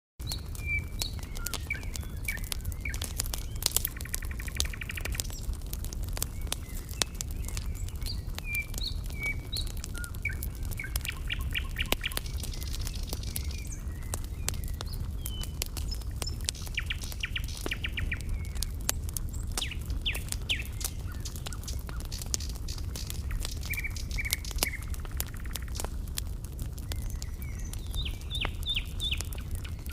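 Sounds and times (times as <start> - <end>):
small birds chirping: 0.2 - 29.9.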